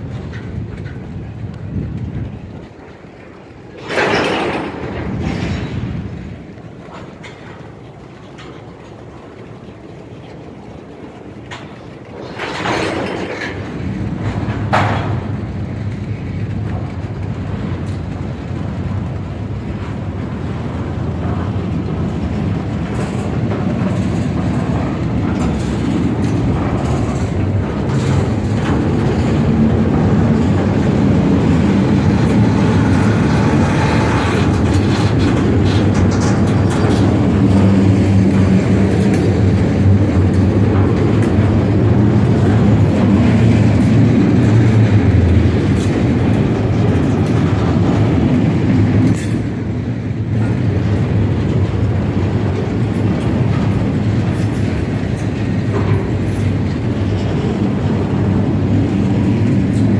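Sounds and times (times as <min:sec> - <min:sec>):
freight train wheels rumbling on rails: 0:00.0 - 0:59.9
sharp clicks of rail wheels: 0:00.0 - 0:59.9.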